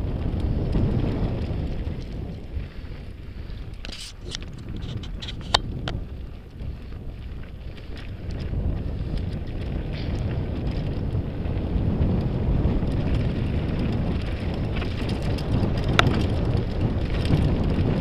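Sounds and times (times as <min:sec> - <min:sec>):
bike clicks and rattles: 0:00.0 - 0:18.0
wind rush on microphone: 0:00.0 - 0:18.0.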